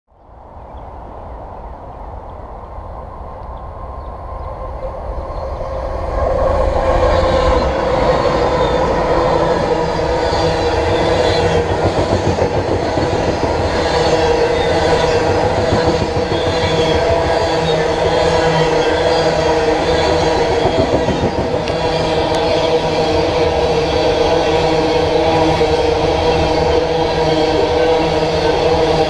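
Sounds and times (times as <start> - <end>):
diesel locomotives: 0.2 - 29.0
train wheels rumbling on rails: 2.2 - 29.0.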